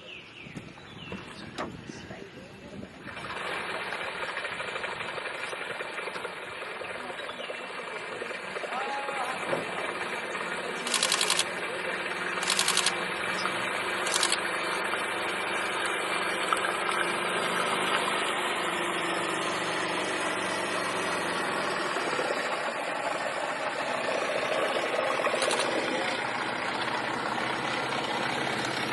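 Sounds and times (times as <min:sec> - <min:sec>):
engine idling: 0:01.2 - 0:28.9.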